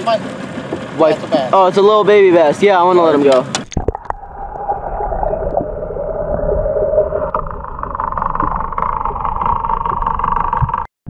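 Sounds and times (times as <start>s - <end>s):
boat motor rumbling: 0.0s - 10.9s.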